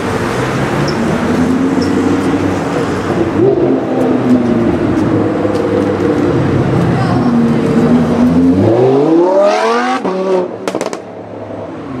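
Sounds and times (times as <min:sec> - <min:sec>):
sports car engine at low speed: 0:00.0 - 0:12.0.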